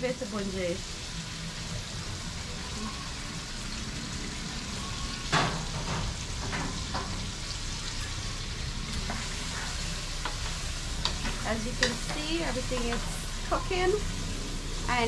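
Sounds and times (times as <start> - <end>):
food frying in a pot: 0.0 - 15.0.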